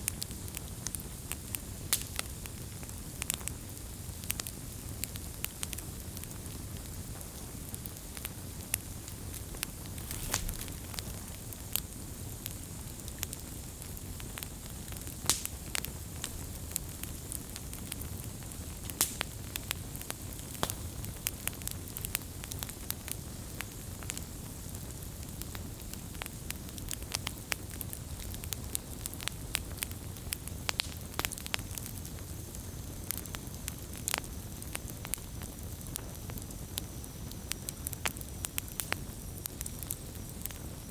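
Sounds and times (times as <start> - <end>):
burning wood crackling and popping: 0.0 - 40.9
low rumble of flame: 0.0 - 40.9.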